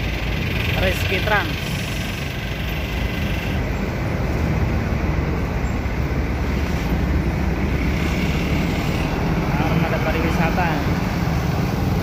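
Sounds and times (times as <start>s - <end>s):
coach diesel engine rumble: 0.0s - 12.0s.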